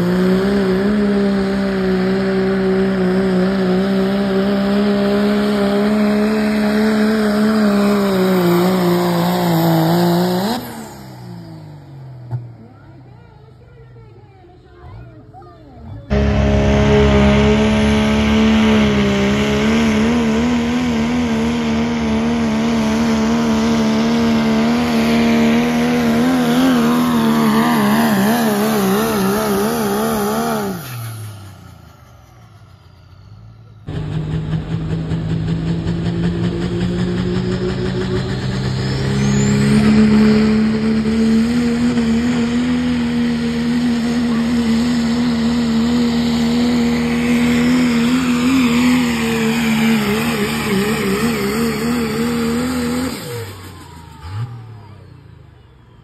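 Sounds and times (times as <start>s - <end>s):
diesel truck engines at full throttle: 0.0s - 56.0s.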